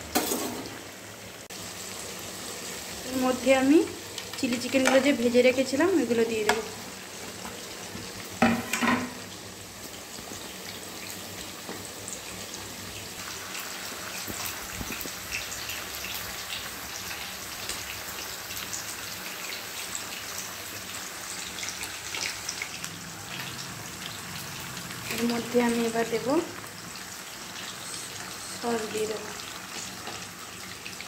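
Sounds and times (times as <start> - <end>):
frying sizzle in oil: 0.0 - 31.0.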